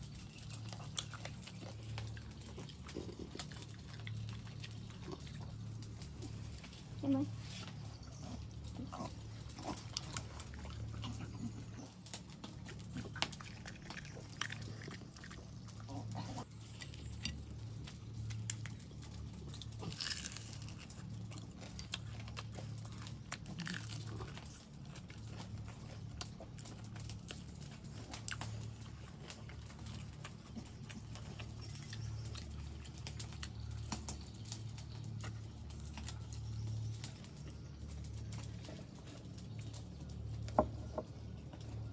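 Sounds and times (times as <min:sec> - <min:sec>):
crunching and chewing: 0:00.0 - 0:41.9.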